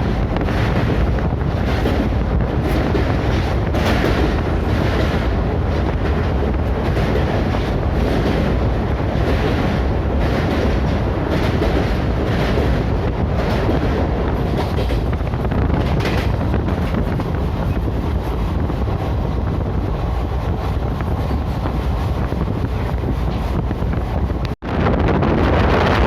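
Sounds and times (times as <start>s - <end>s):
train running on rails: 0.0s - 26.0s
wind noise on microphone: 0.0s - 26.0s.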